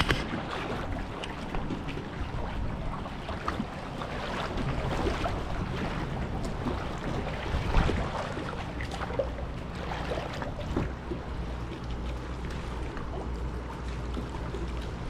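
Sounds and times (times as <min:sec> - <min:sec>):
water sloshing around a boat: 0:00.0 - 0:15.0
wind rumble on microphone: 0:00.0 - 0:15.0.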